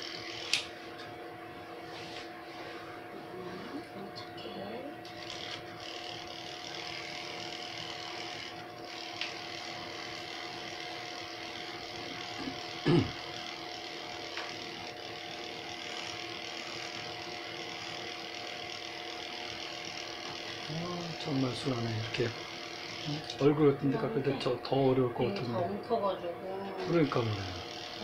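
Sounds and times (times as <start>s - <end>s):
electric pet clippers humming: 0.0s - 28.0s.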